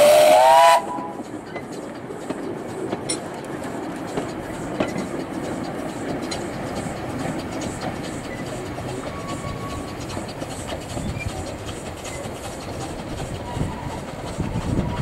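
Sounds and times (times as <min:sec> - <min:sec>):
train rolling past: 0:00.0 - 0:15.0
wheels clicking over rail joints: 0:00.0 - 0:15.0.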